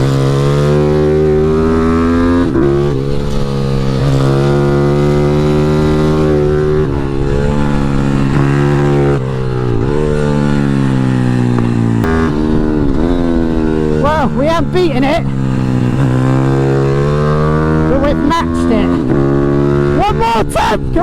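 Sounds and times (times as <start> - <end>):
motorbike engine revving: 0.0 - 21.0.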